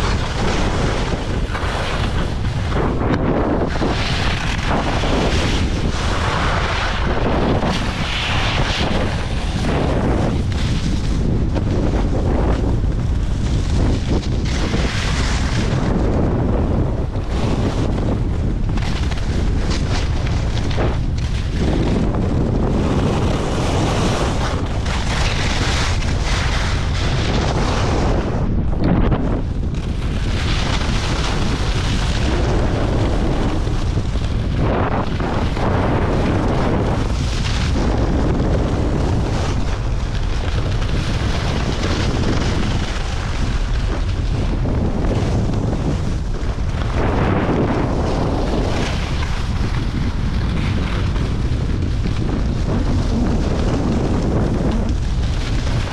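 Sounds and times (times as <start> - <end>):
skis hissing and scraping on snow: 0.0 - 28.3, 29.7 - 55.9
wind buffeting microphone: 0.0 - 55.9.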